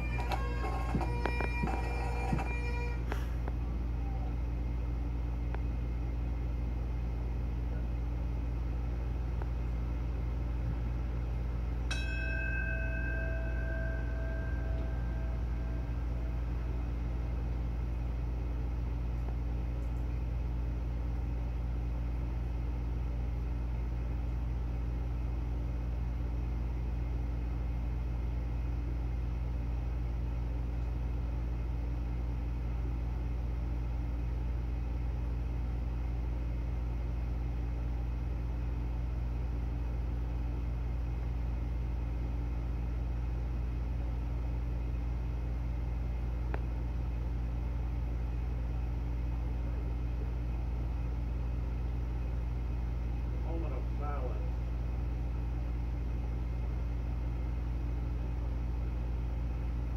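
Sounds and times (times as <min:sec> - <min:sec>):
faint steady hum: 0:00.0 - 0:59.9
low rumble of outdoor crowd: 0:00.0 - 0:59.9.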